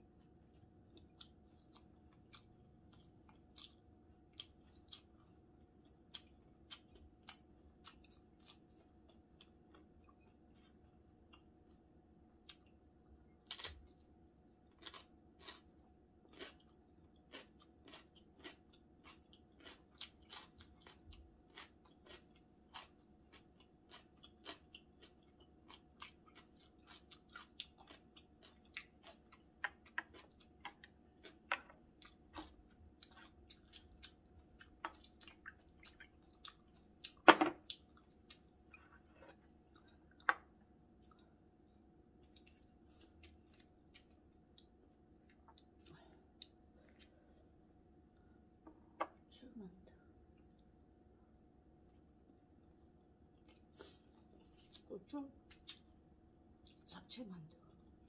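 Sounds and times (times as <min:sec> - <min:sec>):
person chewing food: 0:00.0 - 0:49.0, 0:53.0 - 0:54.8
faint steady hum: 0:00.0 - 0:58.0.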